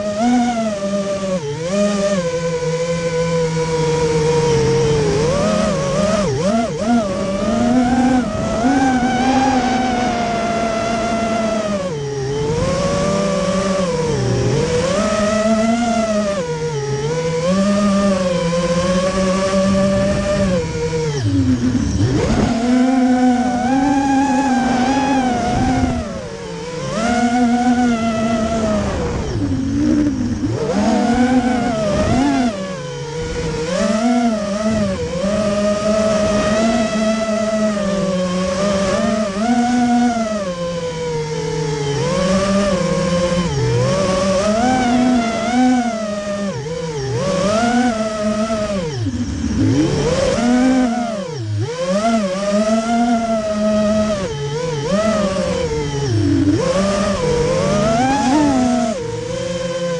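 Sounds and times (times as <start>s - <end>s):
model plane propeller whine: 0.0s - 59.9s.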